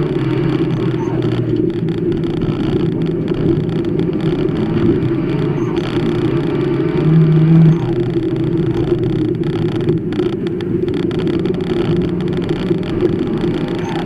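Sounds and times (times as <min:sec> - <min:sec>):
engine at high revs: 0:00.0 - 0:14.0.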